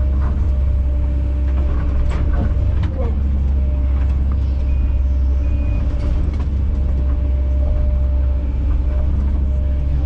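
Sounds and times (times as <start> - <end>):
excavator diesel engine droning: 0.0 - 10.0.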